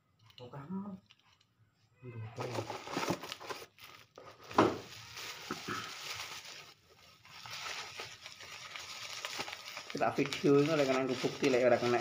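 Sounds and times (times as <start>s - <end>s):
bubble wrap rustling and crinkling: 0.2s - 1.5s, 2.4s - 12.0s.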